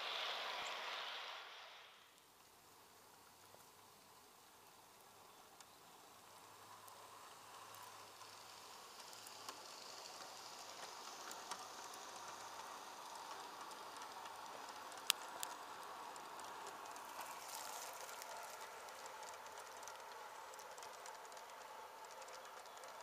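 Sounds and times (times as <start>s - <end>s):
model train wheels whirring: 0.0s - 23.0s
model train clicking: 2.1s - 23.0s.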